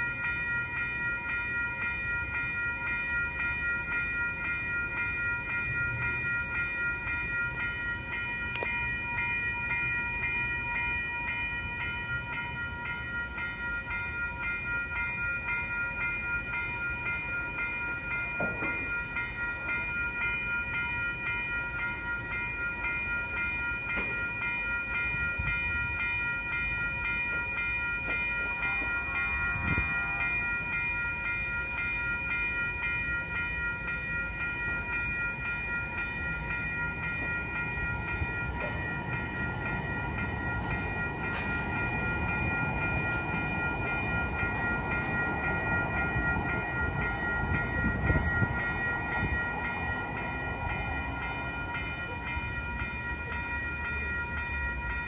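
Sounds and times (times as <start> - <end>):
railroad crossing bell ringing: 0.0 - 55.0
train rumble: 0.0 - 55.0.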